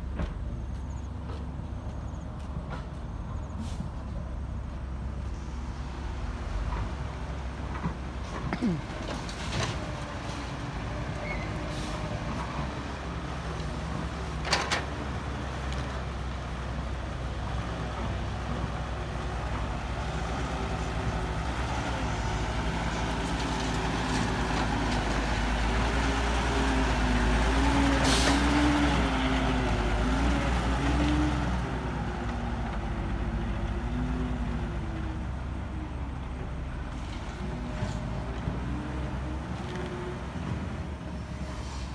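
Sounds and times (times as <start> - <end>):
heavy diesel machinery engine: 0.0 - 41.9.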